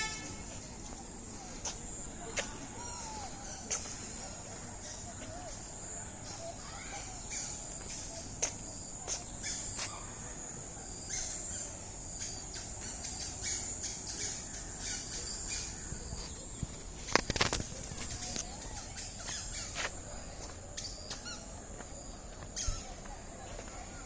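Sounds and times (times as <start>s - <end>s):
bird calls and chirps: 0.0s - 24.0s
insects droning: 0.0s - 24.0s.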